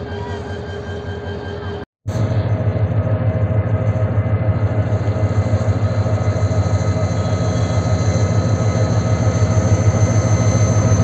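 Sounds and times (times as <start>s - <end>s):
diesel locomotive rumbling: 0.0s - 11.0s
high whine: 0.0s - 11.0s.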